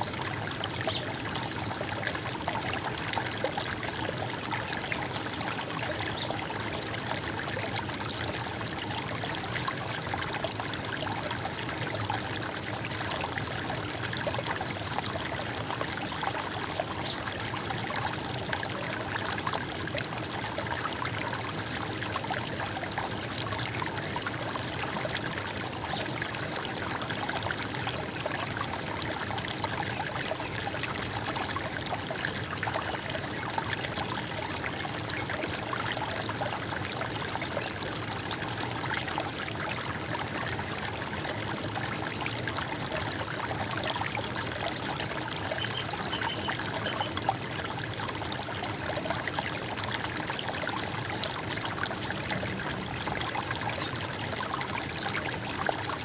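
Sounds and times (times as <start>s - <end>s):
stream trickling and gurgling: 0.0s - 56.0s.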